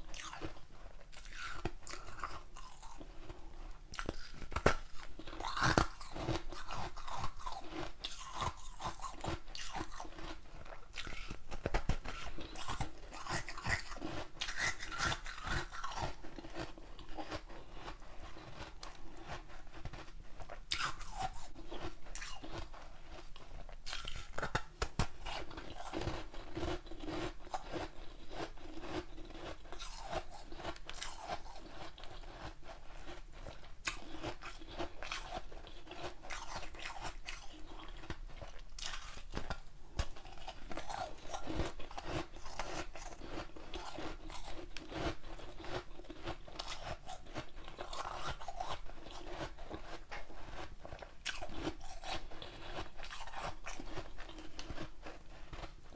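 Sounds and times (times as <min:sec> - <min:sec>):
chewing crunchy ice: 0:00.0 - 0:55.9.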